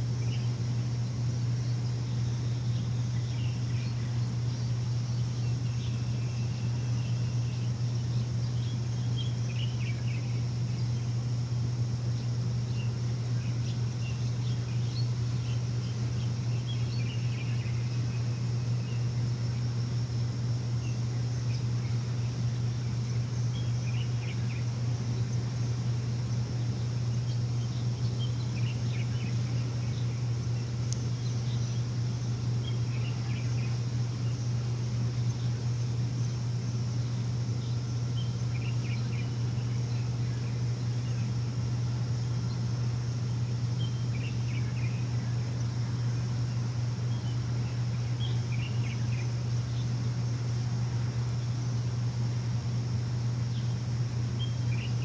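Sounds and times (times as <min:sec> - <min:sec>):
birds chirping: 0:00.0 - 0:55.0
low machine hum: 0:00.0 - 0:55.0.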